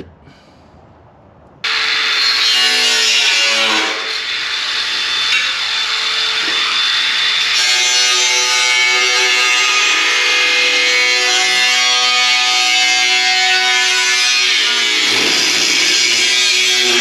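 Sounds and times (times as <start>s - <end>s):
power tool cutting sheet metal: 1.7s - 17.0s.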